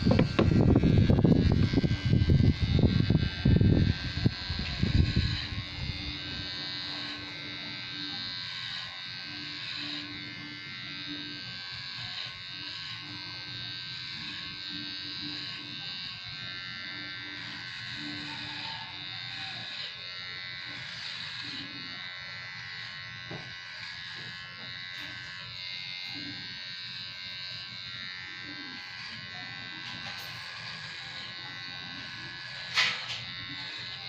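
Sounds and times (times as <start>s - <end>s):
electric hair clipper buzzing: 0.0s - 34.0s.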